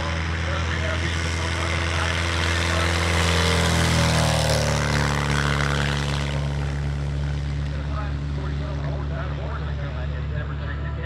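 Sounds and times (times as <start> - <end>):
propeller plane engine at full power: 0.0 - 11.0.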